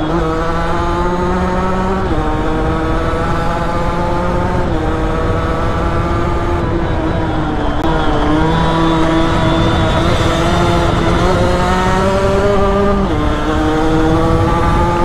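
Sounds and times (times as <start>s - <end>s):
motorcycle engine at high revs: 0.0s - 15.0s
wind rush over microphone: 0.0s - 15.0s.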